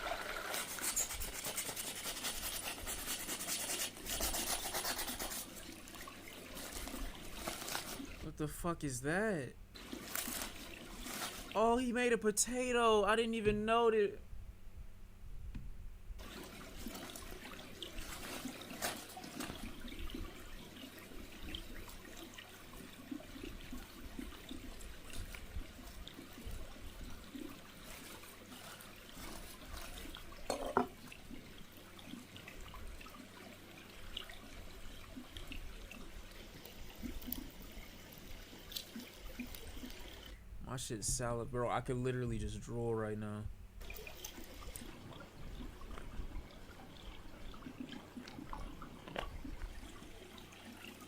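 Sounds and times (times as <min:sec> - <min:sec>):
water running and trickling: 0:00.0 - 0:08.2, 0:09.8 - 0:11.6, 0:16.2 - 0:40.4, 0:43.8 - 0:51.0.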